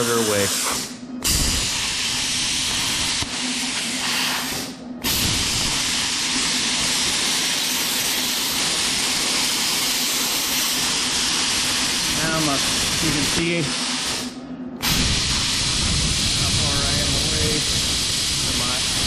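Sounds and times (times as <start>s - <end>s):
plasma cutter hissing: 0.0s - 19.0s.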